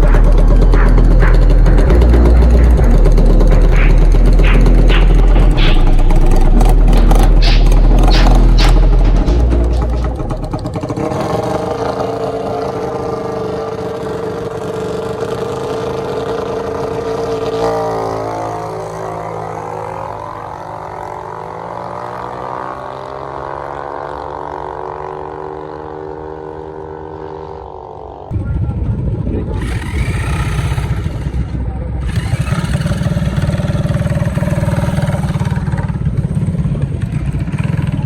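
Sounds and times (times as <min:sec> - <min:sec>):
minibike engines revving high: 0:00.0 - 0:28.1, 0:29.4 - 0:38.0.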